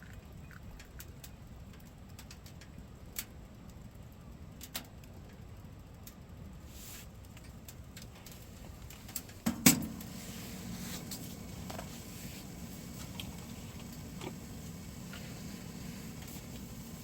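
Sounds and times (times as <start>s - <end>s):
faint fire crackles: 0.0s - 17.0s.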